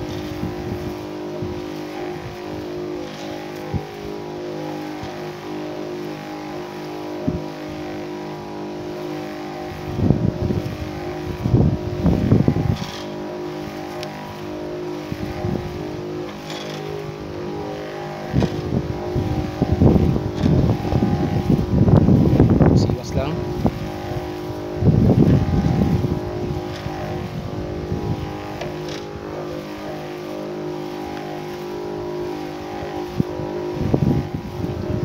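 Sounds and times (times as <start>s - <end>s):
sprayer pump motor humming: 0.0s - 35.0s.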